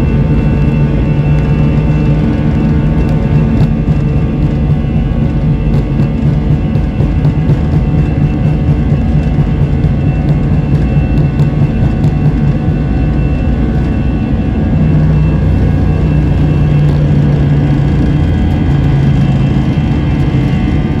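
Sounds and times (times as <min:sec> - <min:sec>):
high engine whine: 0:00.0 - 0:21.0
jet engines roaring: 0:00.0 - 0:21.0.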